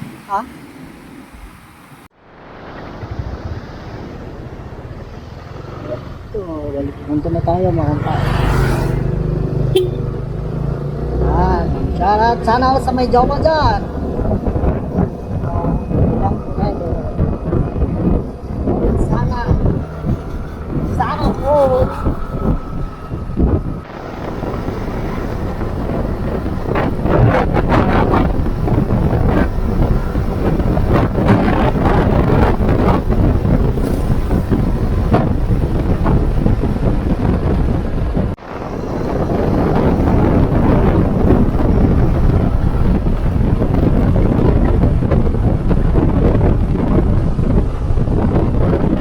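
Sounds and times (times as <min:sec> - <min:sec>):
tyres on road: 0:00.0 - 0:49.0
wind buffeting microphone: 0:00.0 - 0:49.0
scooter engine rumble: 0:02.6 - 0:49.0.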